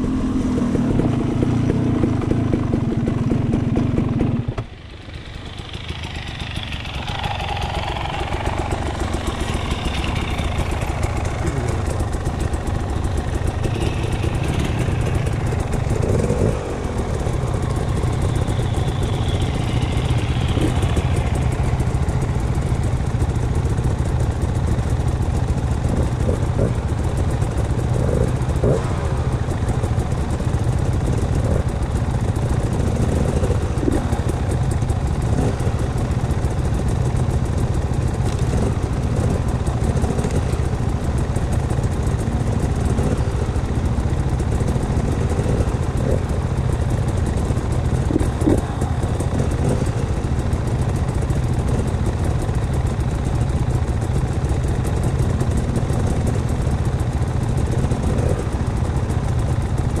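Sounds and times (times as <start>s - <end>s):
vehicle engine idling: 0.0s - 60.0s.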